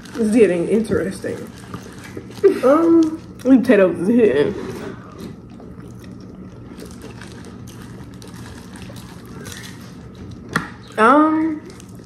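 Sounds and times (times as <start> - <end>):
low steady hum: 0.0 - 12.0
wet eating sounds: 0.0 - 12.0.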